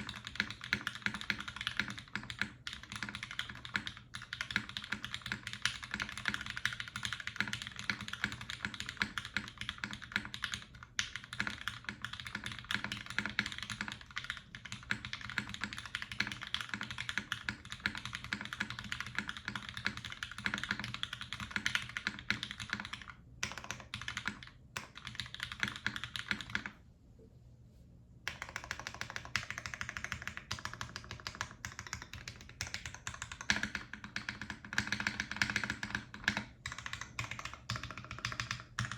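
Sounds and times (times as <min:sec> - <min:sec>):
mechanical keyboard typing: 0:00.0 - 0:26.7, 0:28.3 - 0:38.9.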